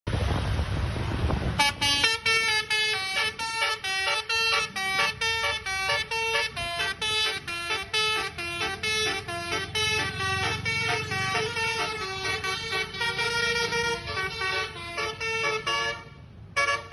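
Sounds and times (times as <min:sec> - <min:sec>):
bus engine and road noise: 0:00.0 - 0:16.9
multi-tone bus horn tune: 0:01.6 - 0:16.9.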